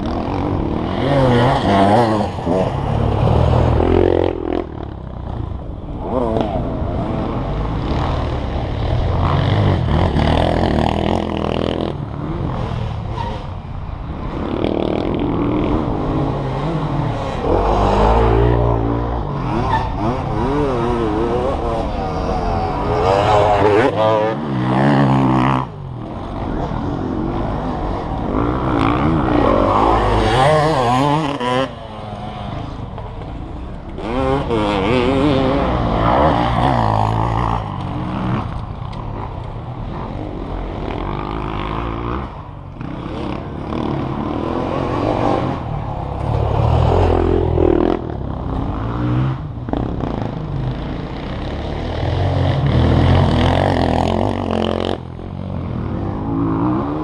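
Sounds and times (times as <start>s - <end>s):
dirt bike engines revving: 0.0s - 57.0s.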